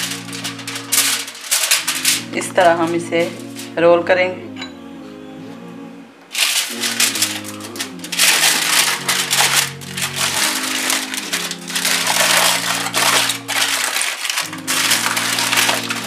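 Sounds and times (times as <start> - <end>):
aluminium foil crinkling: 0.0 - 3.8, 6.3 - 16.0
soft background music: 0.0 - 16.0.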